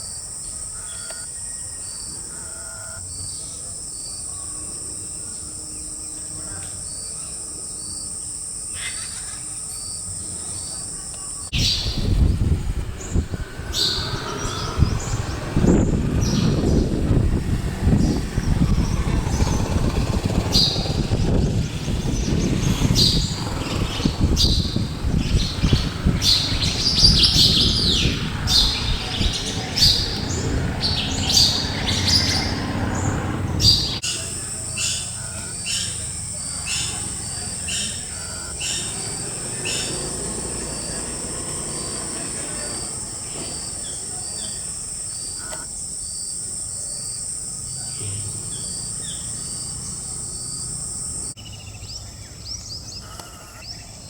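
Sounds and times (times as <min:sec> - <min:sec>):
birds chirping: 0:00.0 - 0:54.0
steady high-pitched buzz: 0:00.0 - 0:54.0.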